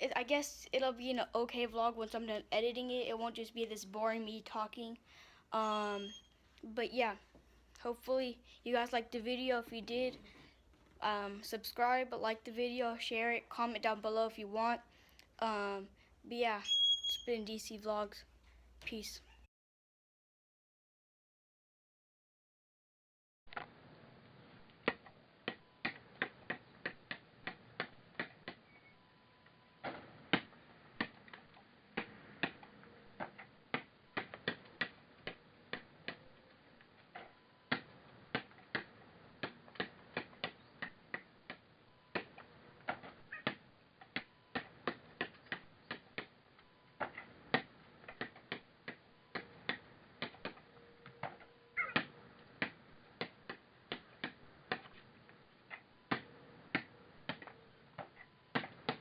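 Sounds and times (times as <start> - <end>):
faint steady background noise: 0.0 - 19.5, 23.5 - 59.0.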